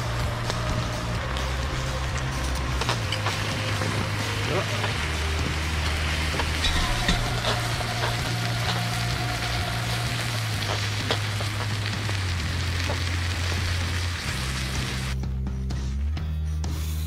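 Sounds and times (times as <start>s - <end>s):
hissing steam: 0.0s - 15.2s
molten metal sizzling in water: 0.0s - 15.2s.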